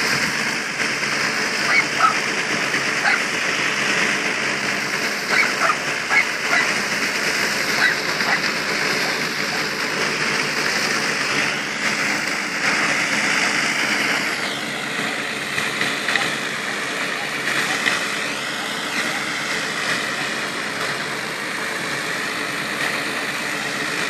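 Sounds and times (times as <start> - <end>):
manure spreader beaters rushing: 0.0 - 24.0.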